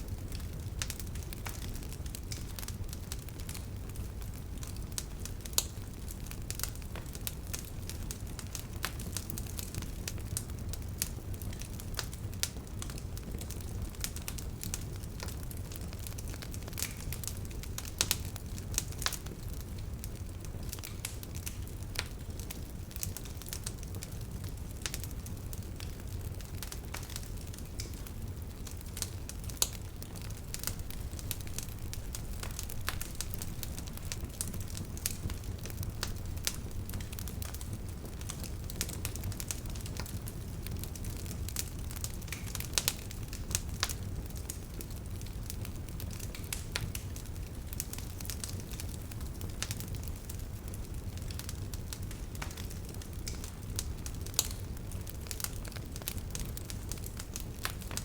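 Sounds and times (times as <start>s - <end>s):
bonfire crackling: 0.0s - 58.0s
low rumble of flames: 0.0s - 58.0s
sharp pops of burning wood: 0.1s - 58.0s.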